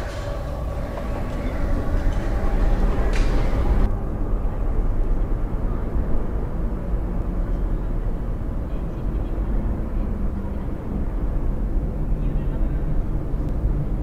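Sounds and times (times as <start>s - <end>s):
vehicles driving rumble: 0.0s - 14.0s.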